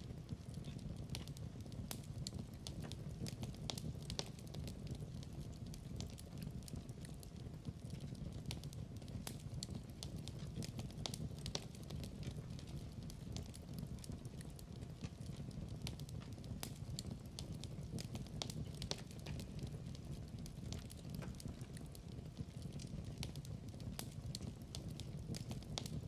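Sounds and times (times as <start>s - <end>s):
fire crackling: 0.0s - 26.0s.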